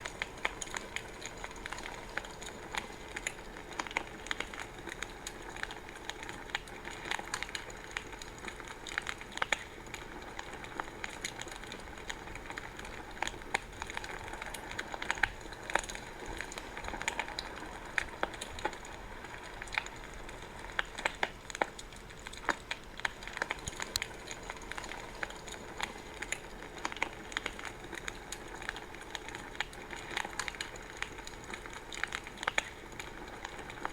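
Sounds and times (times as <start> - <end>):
fire popping and snapping: 0.0 - 33.9
wood fire crackling: 0.0 - 33.9.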